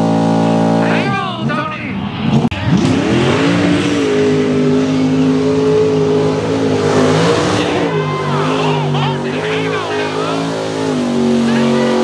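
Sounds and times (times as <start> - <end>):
another truck engine: 0.0 - 12.0
truck engine revving: 0.0 - 12.0
truck churning through mud: 2.1 - 12.0.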